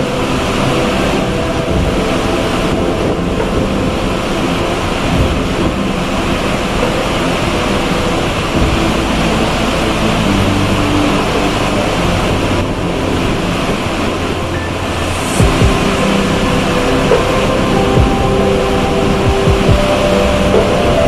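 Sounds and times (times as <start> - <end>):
ship engine drone: 0.0 - 21.0
waves rushing: 0.0 - 21.0
wind: 0.0 - 21.0.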